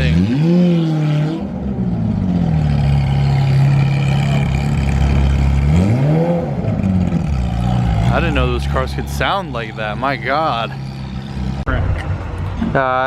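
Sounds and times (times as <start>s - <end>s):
sports car exhaust revving: 0.0s - 12.6s.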